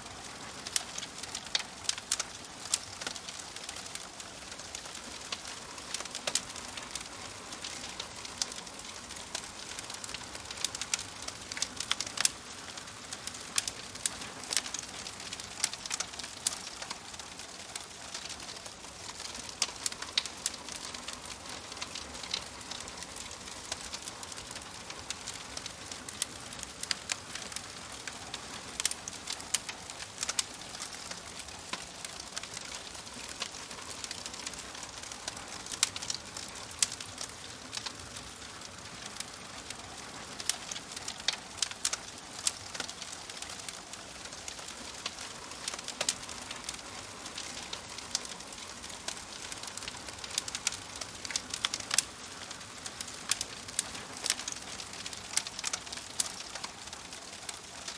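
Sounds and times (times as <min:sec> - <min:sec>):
wood fire crackling and popping: 0:00.0 - 0:57.9.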